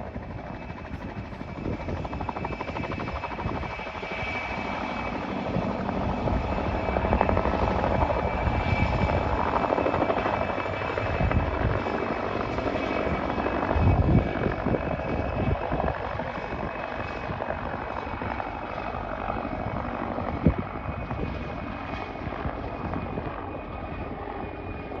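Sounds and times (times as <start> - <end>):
helicopter engines and rotor: 0.0 - 25.0.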